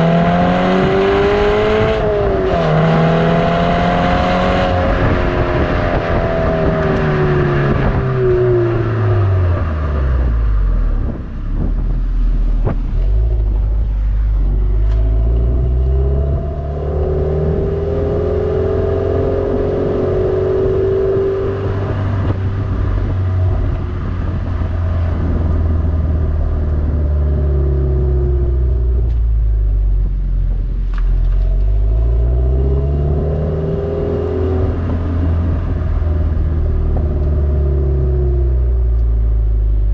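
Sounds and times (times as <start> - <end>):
car engine through exhaust: 0.0 - 39.9.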